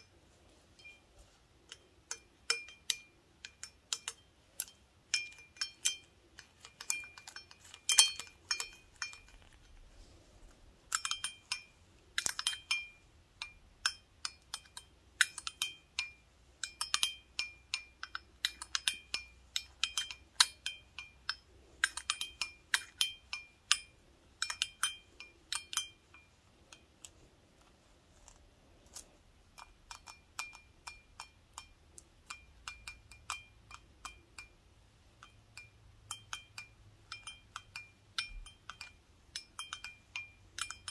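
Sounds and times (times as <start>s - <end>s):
toothpicks clinking on glass: 1.7s - 9.8s, 10.9s - 27.2s, 28.9s - 34.6s, 35.2s - 40.9s.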